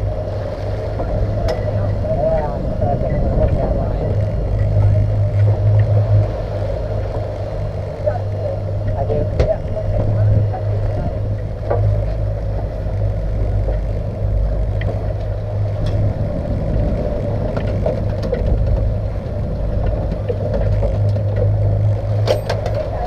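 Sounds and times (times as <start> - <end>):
boat engine droning: 0.0 - 23.0
wind and water noise: 0.0 - 23.0.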